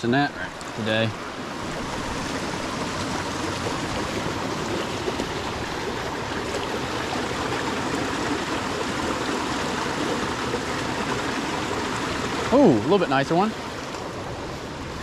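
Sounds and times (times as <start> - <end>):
creek running over boulders: 0.0 - 15.0.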